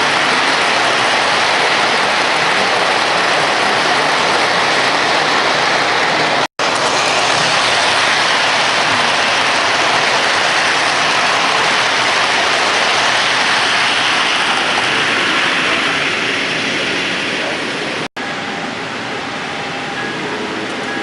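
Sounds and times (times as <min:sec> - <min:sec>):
dense rushing noise: 0:00.0 - 0:18.3.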